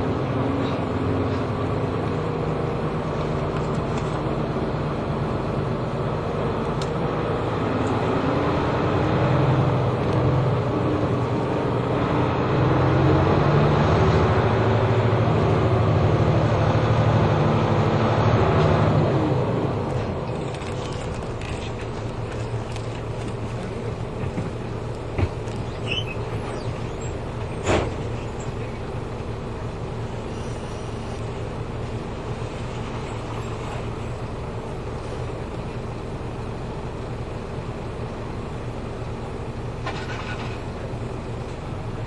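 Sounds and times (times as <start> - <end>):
bus engine drone: 0.0 - 42.0
road noise: 0.0 - 42.0.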